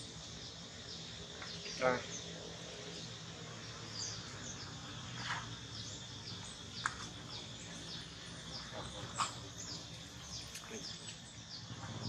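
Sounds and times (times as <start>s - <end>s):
insect drone: 0.0s - 12.0s
small birds chirping: 0.0s - 12.0s.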